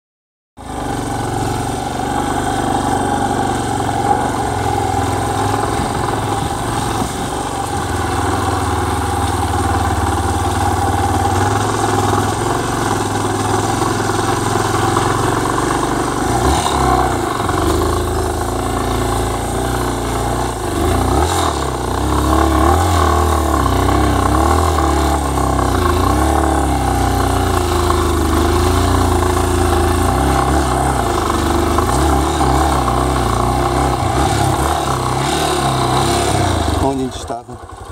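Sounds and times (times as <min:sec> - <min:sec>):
motorcycle engine running: 0:00.6 - 0:37.9.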